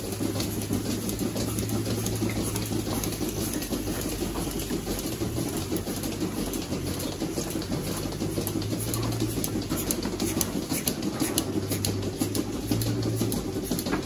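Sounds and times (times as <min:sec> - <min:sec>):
milking machinery humming: 0:00.0 - 0:14.0.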